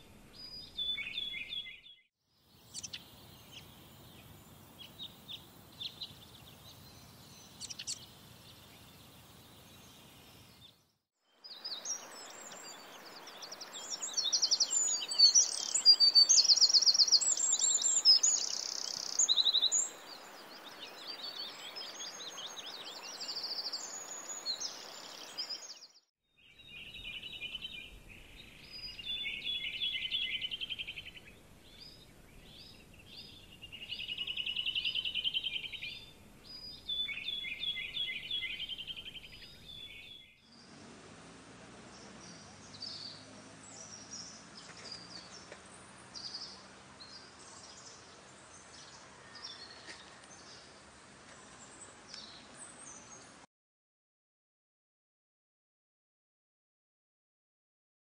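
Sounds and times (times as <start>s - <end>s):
birds chirping: 0.0s - 53.5s.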